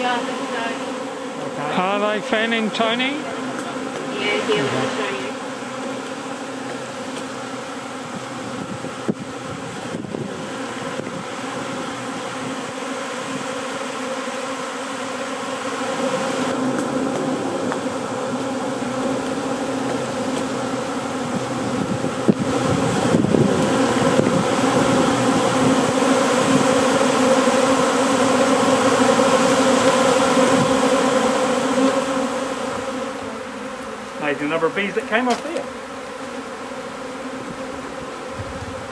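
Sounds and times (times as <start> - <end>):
bee swarm buzzing: 0.0 - 38.9.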